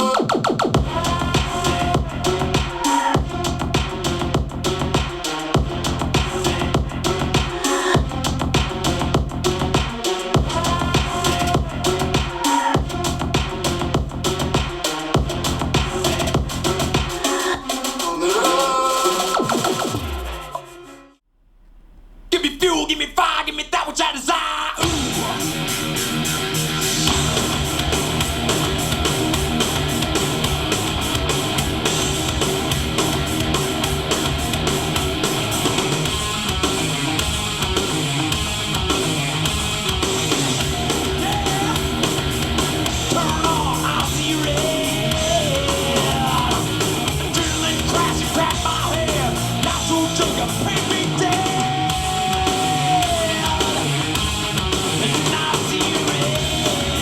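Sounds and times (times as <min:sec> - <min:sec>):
rock music through loudspeaker: 0:00.0 - 0:20.8, 0:22.3 - 0:57.0.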